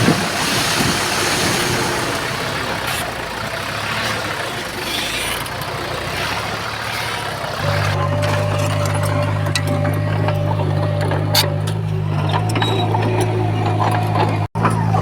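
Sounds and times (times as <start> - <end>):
diesel engine hum: 0.0 - 15.0
machinery clanking: 0.0 - 15.0.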